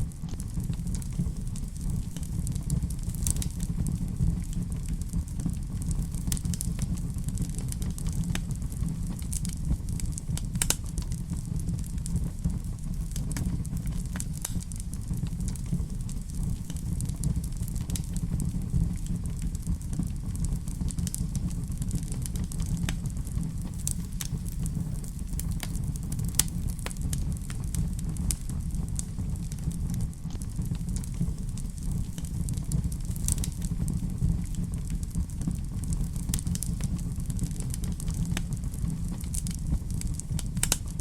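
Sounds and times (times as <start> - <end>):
fireplace fire crackling: 0.0 - 41.0.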